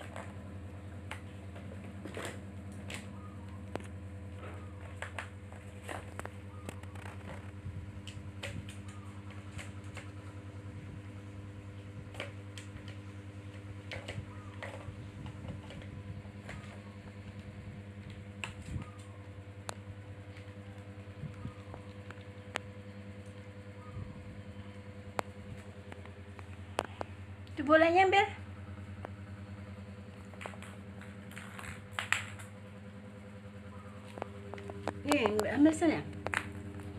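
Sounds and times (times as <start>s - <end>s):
low hum: 0.0s - 36.9s.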